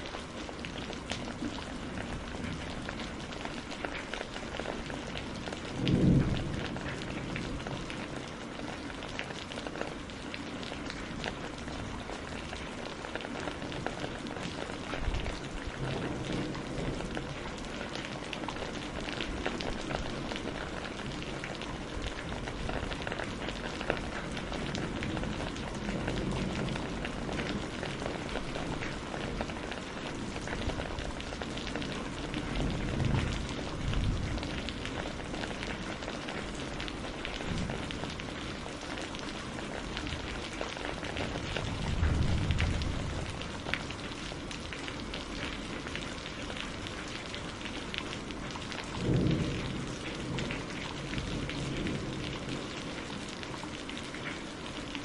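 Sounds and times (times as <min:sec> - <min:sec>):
rain on a greenhouse roof: 0:00.0 - 0:55.0.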